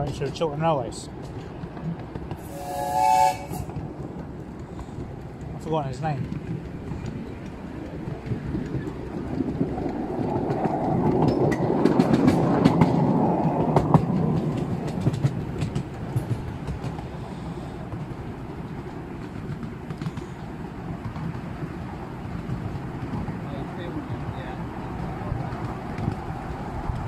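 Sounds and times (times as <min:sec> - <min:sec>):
miniature train rumbling: 0:00.0 - 0:27.0
wheel clicks over rail joints: 0:03.6 - 0:23.6, 0:24.2 - 0:27.0.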